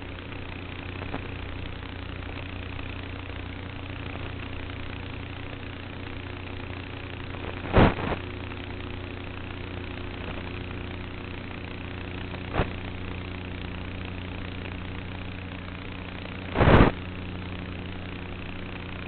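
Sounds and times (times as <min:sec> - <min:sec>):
electric motor and propeller: 0:00.0 - 0:19.0.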